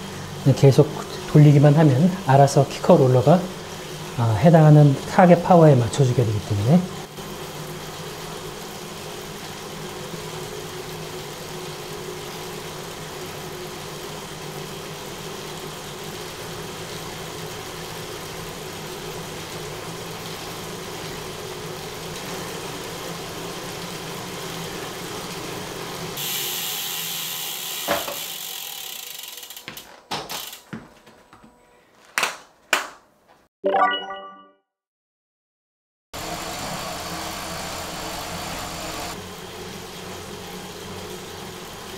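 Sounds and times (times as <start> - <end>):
roller trainer humming: 0.0 - 31.6, 36.2 - 41.9.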